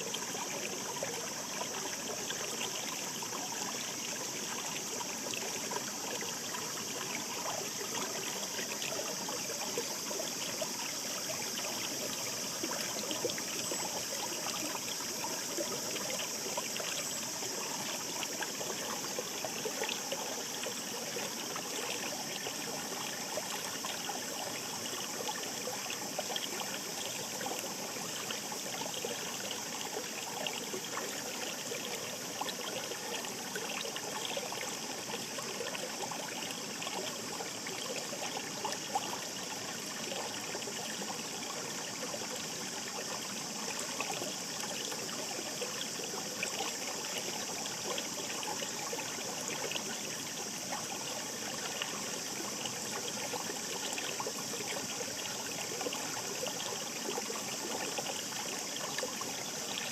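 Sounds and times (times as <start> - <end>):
shallow brook flowing: 0.0 - 59.9.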